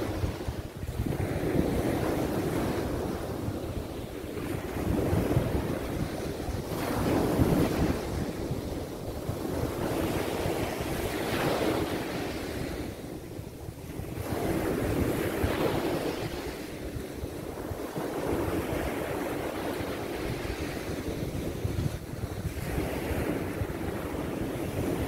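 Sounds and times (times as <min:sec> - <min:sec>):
waves washing up a sandy beach: 0:00.0 - 0:25.0.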